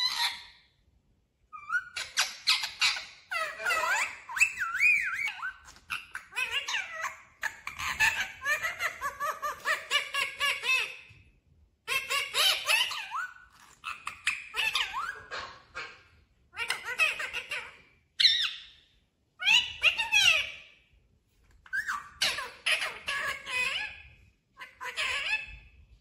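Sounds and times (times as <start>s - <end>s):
parakeet chattering: 0.0s - 0.4s, 1.6s - 11.1s, 11.9s - 18.8s, 19.4s - 20.6s, 21.6s - 25.6s.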